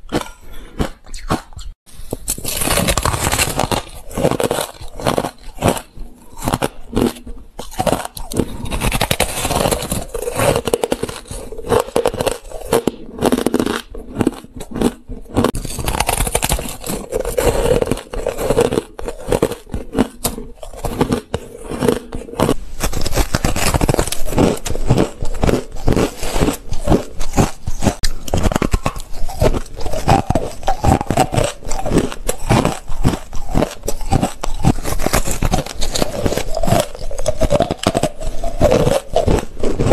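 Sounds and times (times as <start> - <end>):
ice chunks crunched by chewing: 0.0 - 39.9.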